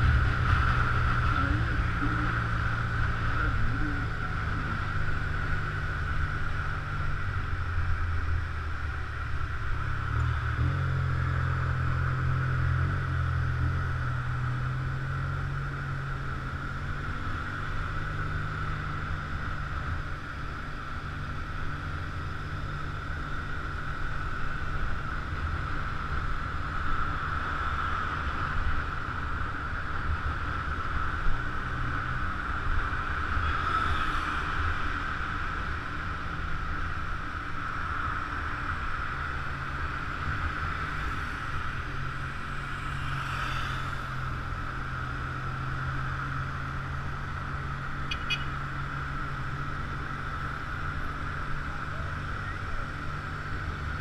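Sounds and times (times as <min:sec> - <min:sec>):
scooter engine drone and whine: 0:00.0 - 0:54.0.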